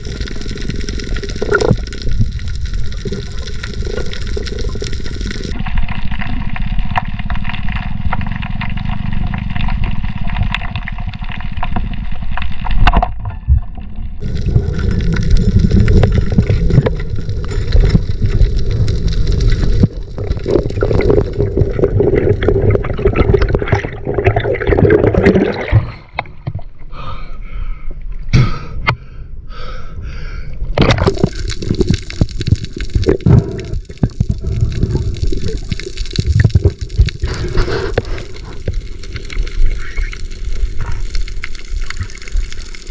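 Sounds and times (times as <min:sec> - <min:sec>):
water bubbling: 0:00.0 - 0:12.2, 0:12.8 - 0:26.8, 0:30.7 - 0:42.9
underwater water gurgling: 0:00.0 - 0:26.9, 0:30.6 - 0:42.9.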